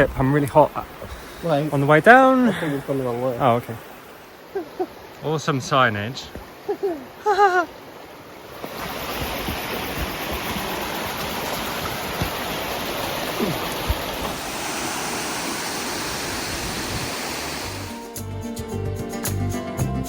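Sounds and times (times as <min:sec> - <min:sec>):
rushing water: 0:00.0 - 0:18.2.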